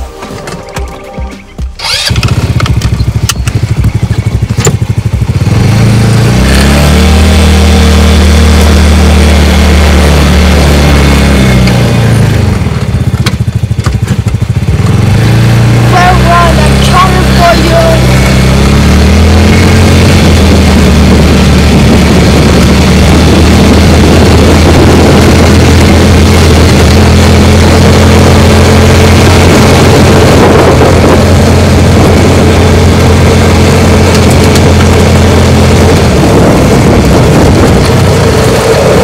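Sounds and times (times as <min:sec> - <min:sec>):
utility vehicle engine running: 0:00.0 - 0:39.0.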